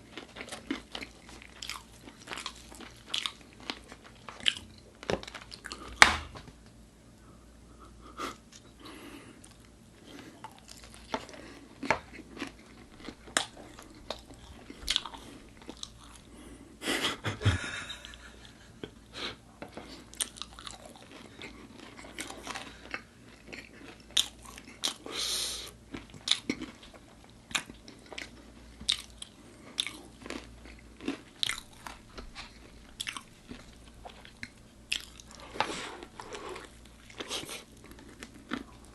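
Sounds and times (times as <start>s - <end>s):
crunchy chewing: 0.0s - 6.1s, 8.5s - 16.5s, 19.7s - 38.9s.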